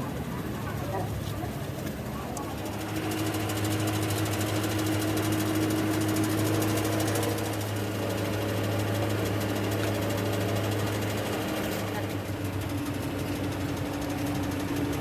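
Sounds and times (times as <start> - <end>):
machine humming: 2.2 - 15.0
fast even rattle: 2.4 - 15.0.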